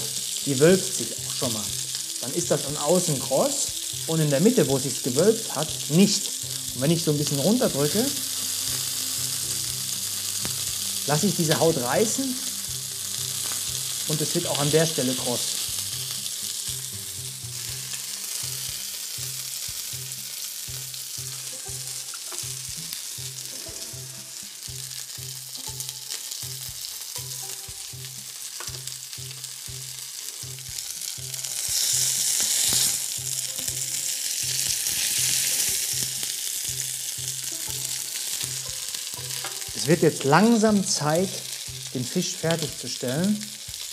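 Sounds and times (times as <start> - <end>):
fish sizzling in a pan: 0.0 - 43.9.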